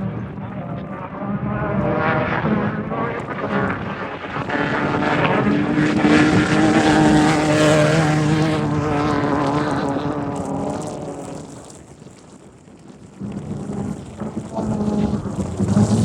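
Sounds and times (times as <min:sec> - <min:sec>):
race vehicle engine passing by: 0:00.0 - 0:12.4, 0:13.1 - 0:16.0.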